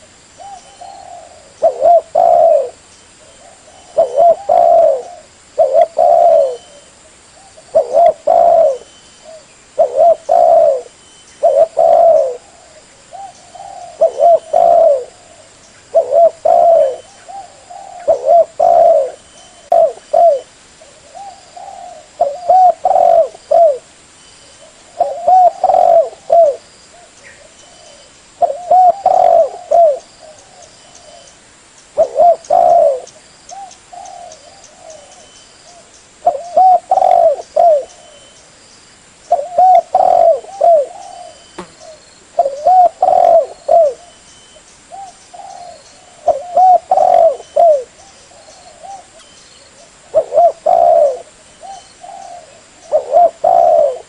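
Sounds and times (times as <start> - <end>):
dove cooing: 0.0 - 23.9, 24.6 - 31.3, 32.0 - 38.4, 39.3 - 44.2, 44.9 - 54.0.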